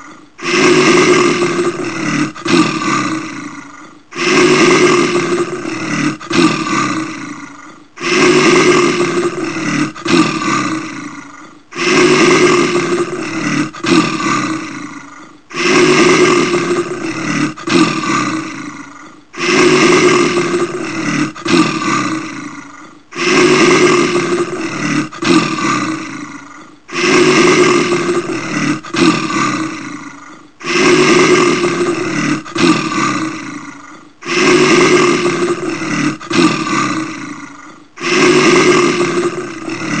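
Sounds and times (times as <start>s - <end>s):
bear roaring: 0.0s - 40.0s.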